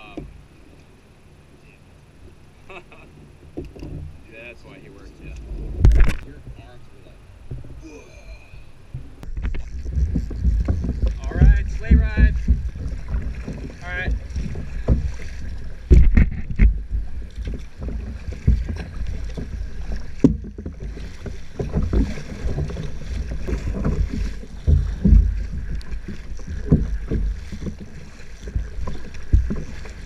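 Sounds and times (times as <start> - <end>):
water splashing against kayak hull: 0.0 - 30.0
wind buffeting microphone: 3.9 - 8.2, 8.8 - 30.0.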